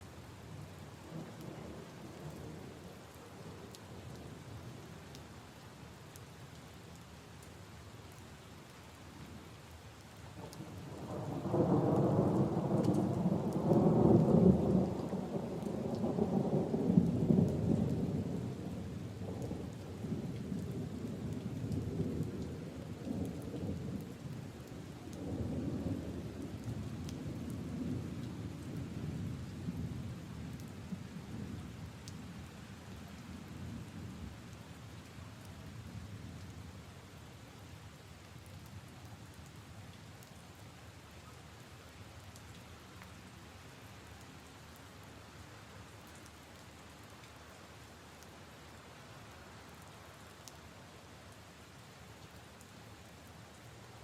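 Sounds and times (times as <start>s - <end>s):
rain on leaves and puddles: 0.0s - 54.0s.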